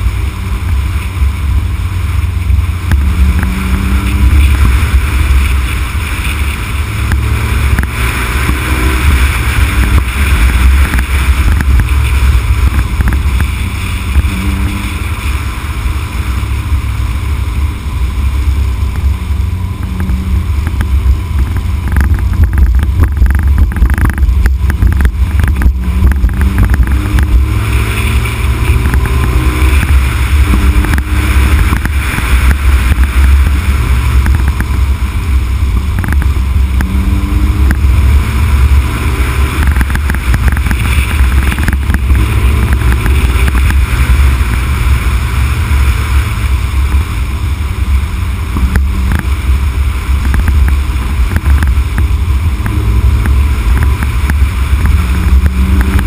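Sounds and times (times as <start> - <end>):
car engine note: 0.0 - 56.0
wind and road noise rumble: 0.0 - 56.0.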